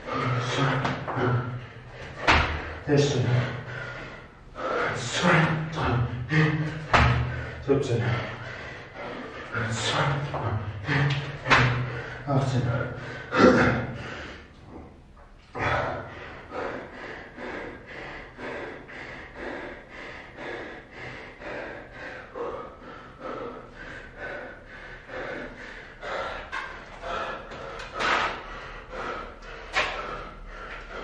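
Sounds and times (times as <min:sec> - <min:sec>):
man panting: 0:00.0 - 0:31.0.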